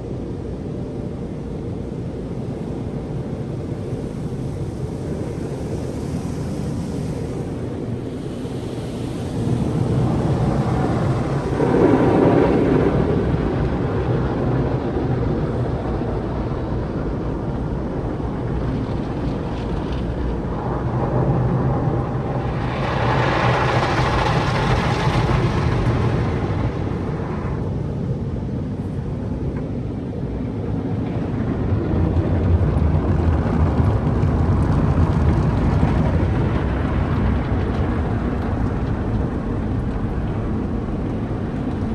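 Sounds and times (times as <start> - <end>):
low machinery rumble: 6.4 - 41.9.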